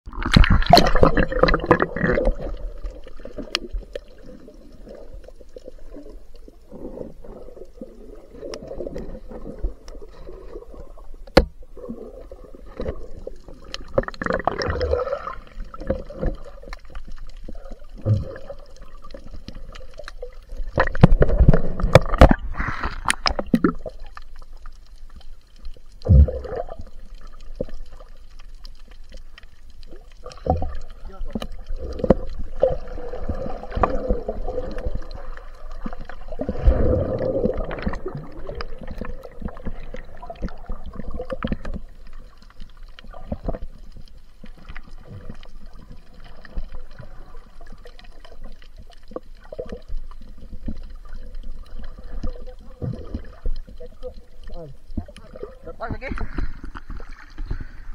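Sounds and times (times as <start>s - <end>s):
water gurgling underwater: 0.0s - 57.9s.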